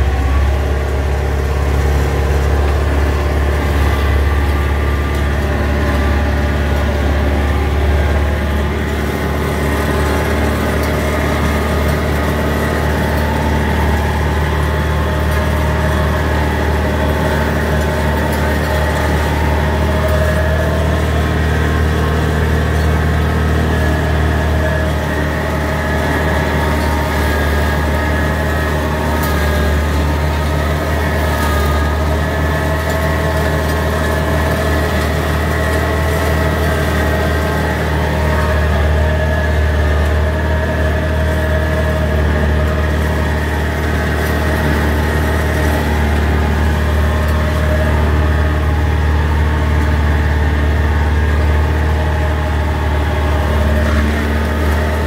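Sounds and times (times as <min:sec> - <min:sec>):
flail mower cutting grass: 0:00.0 - 0:55.0
tractor engine drone: 0:00.0 - 0:55.0.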